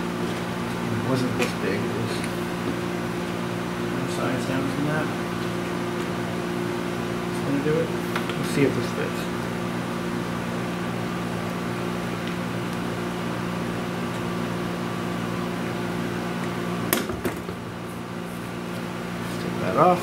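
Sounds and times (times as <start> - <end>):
appliance machine hum: 0.0 - 20.0.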